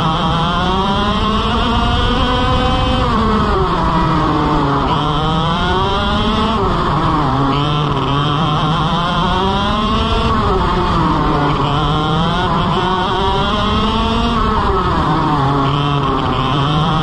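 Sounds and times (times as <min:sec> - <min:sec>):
kart engine revving: 0:00.0 - 0:17.0.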